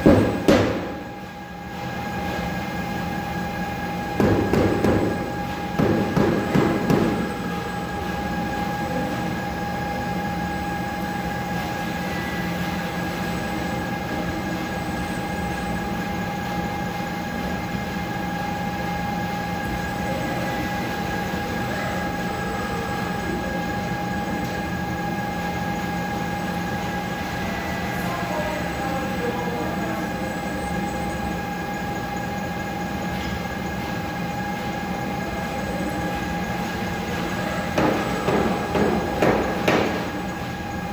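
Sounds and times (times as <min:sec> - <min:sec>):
high machine whine: 0:00.0 - 0:40.9.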